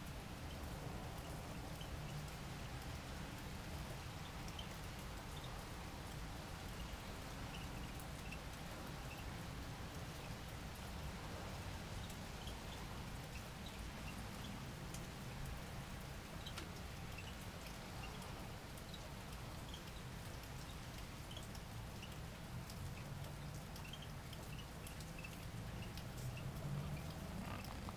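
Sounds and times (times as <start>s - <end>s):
light rain falling: 0.0s - 27.9s
drips ticking: 0.2s - 27.9s.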